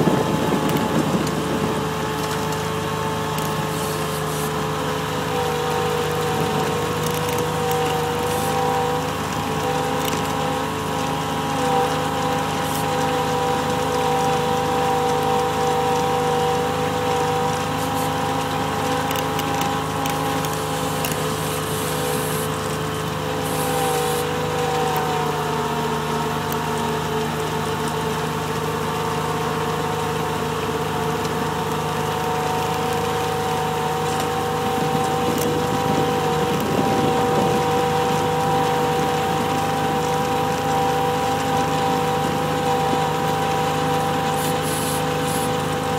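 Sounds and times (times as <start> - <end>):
constant whine: 0.0 - 45.9
diesel engine rumbling: 0.0 - 45.9.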